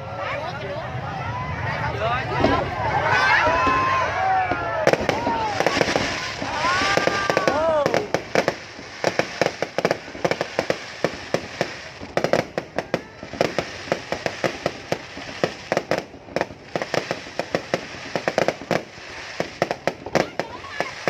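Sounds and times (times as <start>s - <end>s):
fireworks crackle: 1.6s - 21.0s
fireworks bangs and pops: 3.4s - 21.0s.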